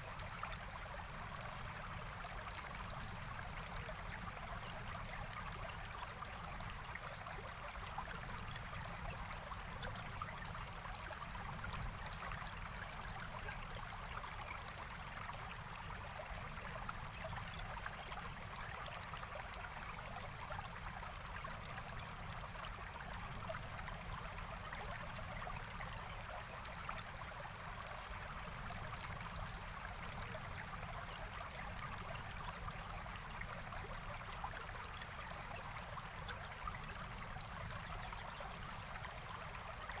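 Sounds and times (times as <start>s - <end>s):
stream water rushing and trickling: 0.0s - 40.0s.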